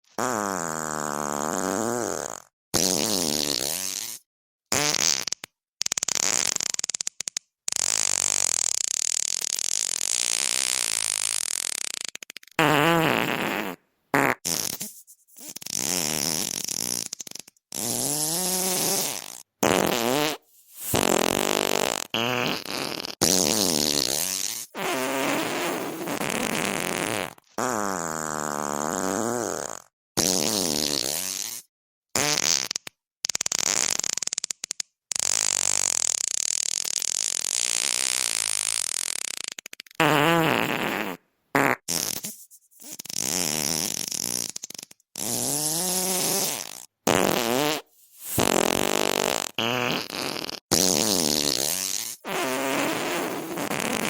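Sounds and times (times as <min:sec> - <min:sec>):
fart sound effects: 0:00.1 - 0:54.0.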